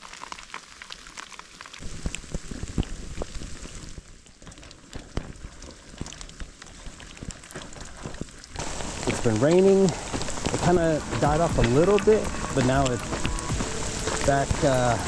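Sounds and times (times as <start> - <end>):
large raindrops tapping: 0.0 - 15.0
steady rain: 0.0 - 15.0.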